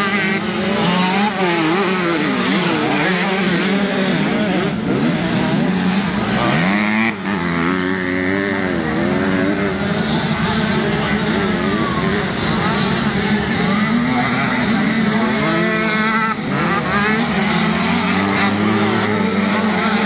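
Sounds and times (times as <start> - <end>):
motorbike engines revving past: 0.0 - 20.0.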